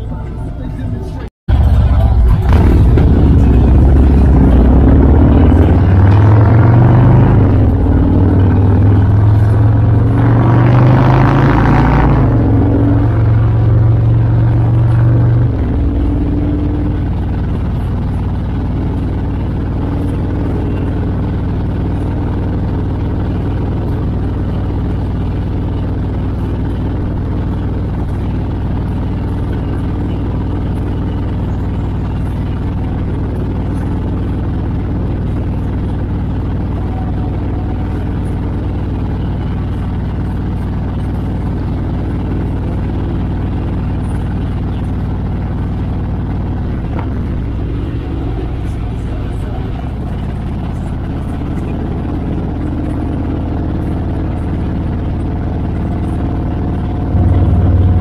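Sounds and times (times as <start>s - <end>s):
motorcycle engines droning: 0.0s - 58.0s.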